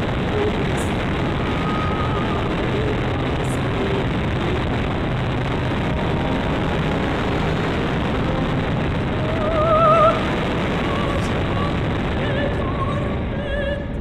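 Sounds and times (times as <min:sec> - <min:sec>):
wind and propeller noise: 0:00.0 - 0:14.0.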